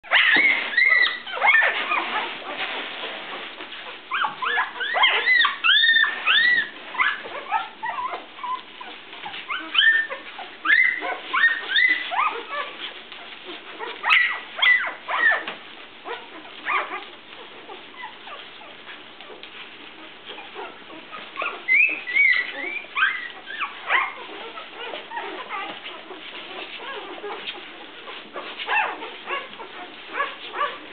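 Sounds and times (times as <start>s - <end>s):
puppies squeaking and whimpering: 0.0s - 30.9s.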